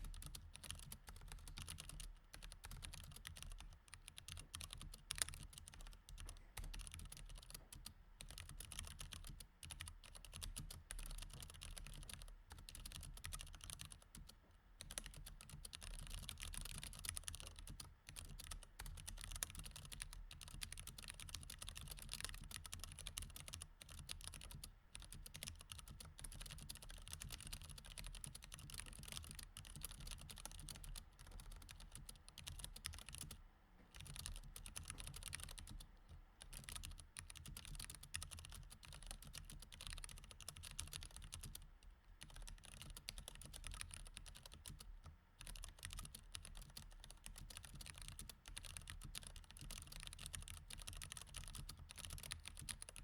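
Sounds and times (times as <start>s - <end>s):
mechanical keyboard typing: 0.0s - 53.0s.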